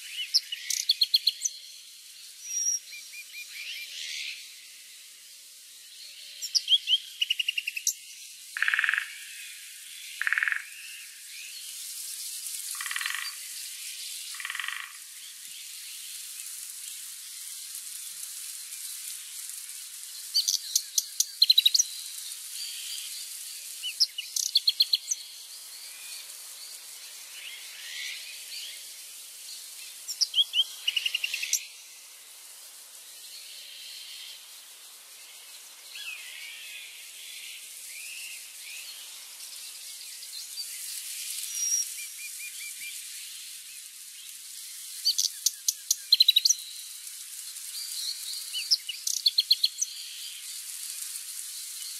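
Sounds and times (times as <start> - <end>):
steady high hiss: 0.0 - 51.9.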